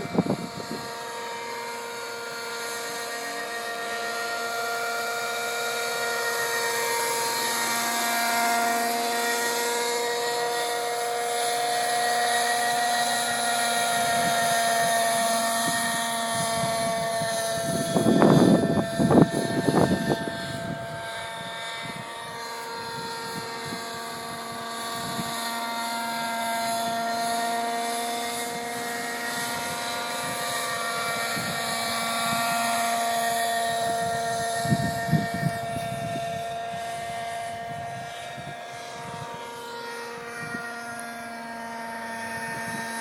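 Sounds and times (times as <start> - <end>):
model helicopter engine whine: 0.0 - 43.0.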